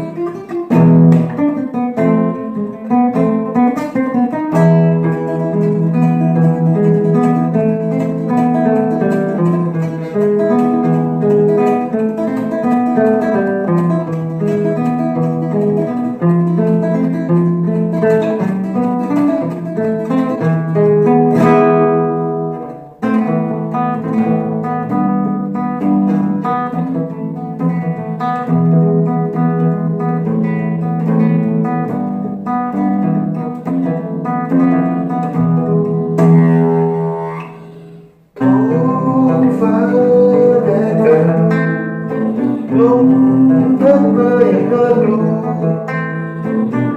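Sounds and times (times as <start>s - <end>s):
flamenco acoustic guitar: 0.0s - 46.9s.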